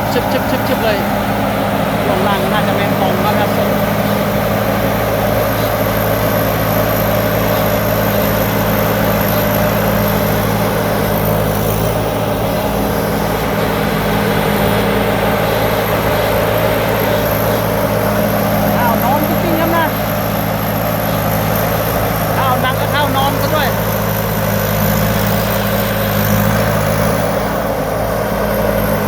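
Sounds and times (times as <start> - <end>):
combine harvester engine running: 0.0 - 29.0.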